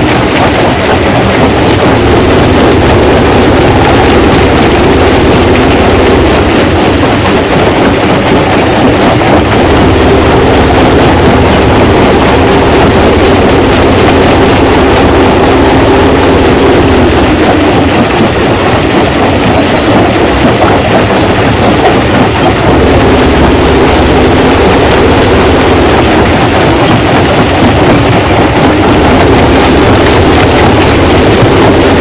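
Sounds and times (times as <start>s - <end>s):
stone crushing machine running: 0.0s - 32.0s.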